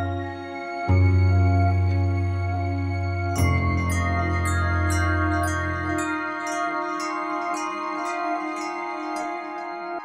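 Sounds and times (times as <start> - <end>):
slow calm background music: 0.0 - 10.0.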